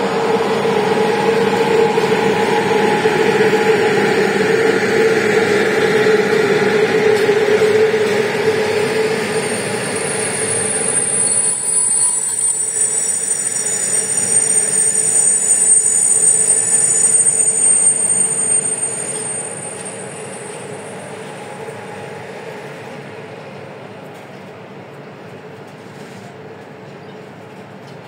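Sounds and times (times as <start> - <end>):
high thin wheel squeal: 0.0 - 22.8
train wheels rumbling on rails: 0.0 - 28.0.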